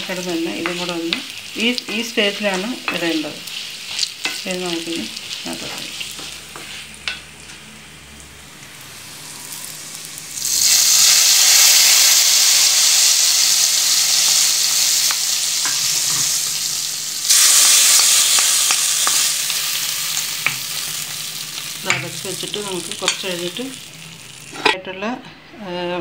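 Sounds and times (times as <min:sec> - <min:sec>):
hot oil sizzling in curry: 0:00.0 - 0:24.8.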